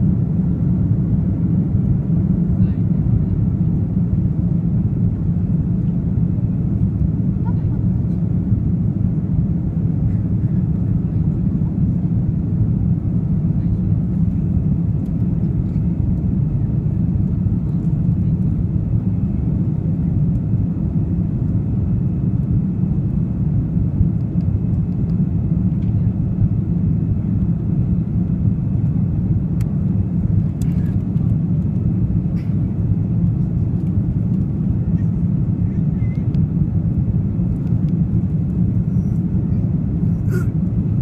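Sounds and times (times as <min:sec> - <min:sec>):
aircraft cabin engine rumble: 0:00.0 - 0:41.0.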